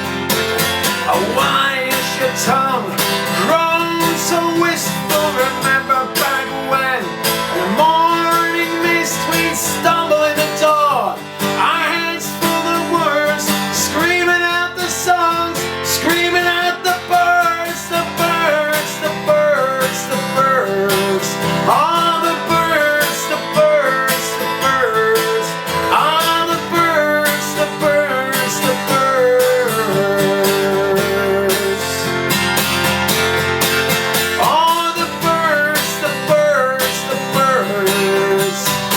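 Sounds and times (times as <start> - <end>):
acoustic guitar folk song: 0.0 - 38.9.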